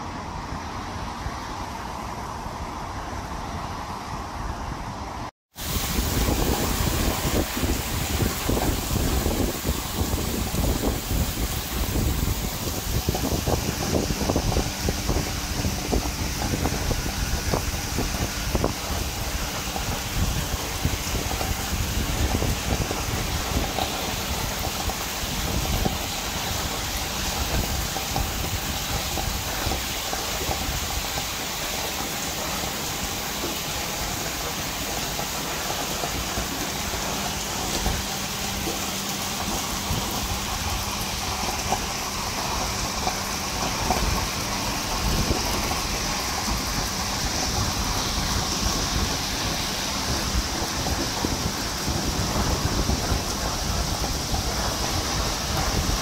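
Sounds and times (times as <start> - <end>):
wind buffeting microphone: 2.3 - 56.0
heavy rain on pavement: 5.0 - 56.0.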